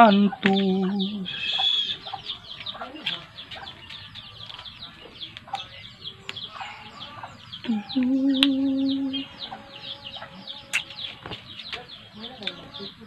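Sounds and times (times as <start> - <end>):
small birds chirping: 0.0 - 13.0
lower rising bird call: 0.9 - 12.9.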